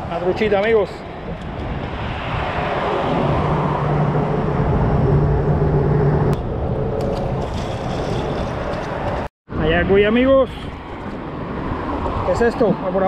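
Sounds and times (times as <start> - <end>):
traffic rumble on bridge: 0.0 - 13.0.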